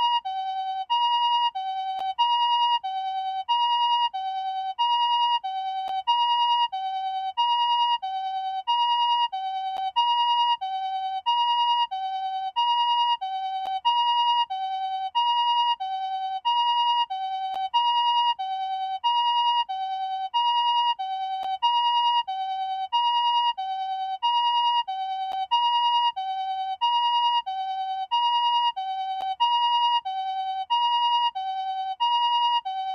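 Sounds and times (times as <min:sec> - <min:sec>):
two-tone ambulance siren: 0:00.0 - 0:32.9.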